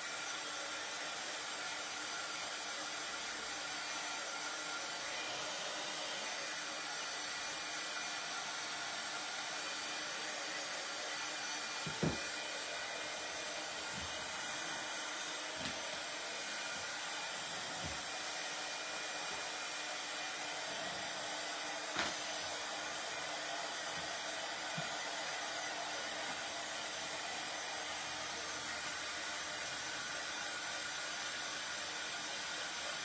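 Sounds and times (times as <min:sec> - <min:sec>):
electric craft dryer blowing: 0:00.0 - 0:33.0.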